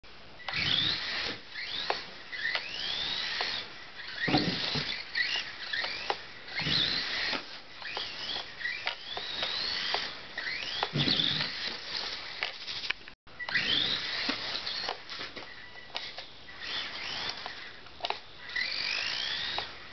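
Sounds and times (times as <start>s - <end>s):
small electric motor whining: 0.4s - 19.9s.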